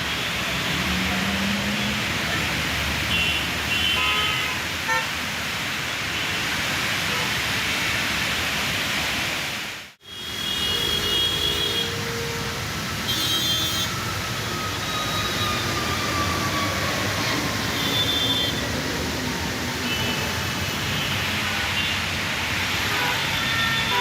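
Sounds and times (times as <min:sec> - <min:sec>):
highway traffic on wet road: 0:00.0 - 0:24.0.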